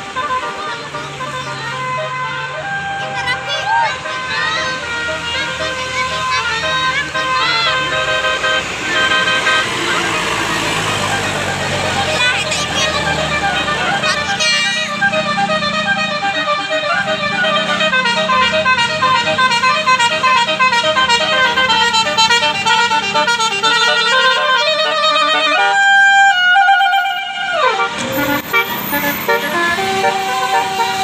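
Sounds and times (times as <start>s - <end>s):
bus engine: 0.0s - 31.0s
musical bus air horn: 0.0s - 31.0s.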